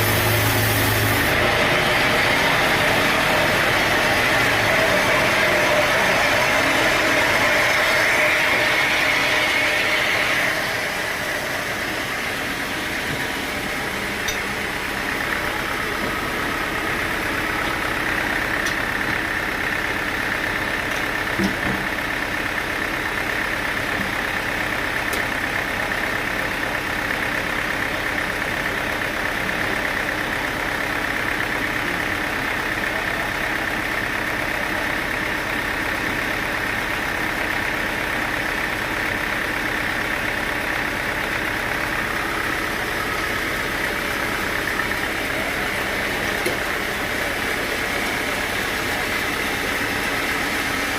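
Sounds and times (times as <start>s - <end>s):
high machine whine: 0.0s - 50.9s
sawmill machinery drone: 0.0s - 50.9s.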